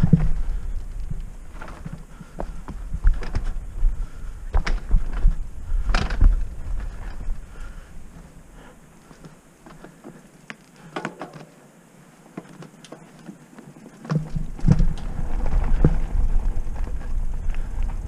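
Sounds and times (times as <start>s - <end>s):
tyres crackling over dirt: 0.0s - 18.0s.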